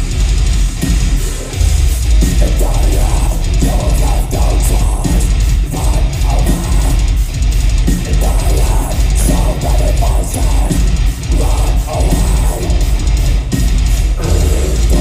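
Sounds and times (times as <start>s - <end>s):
distorted guitars: 0.0s - 15.0s
pounding drum kit: 0.0s - 15.0s.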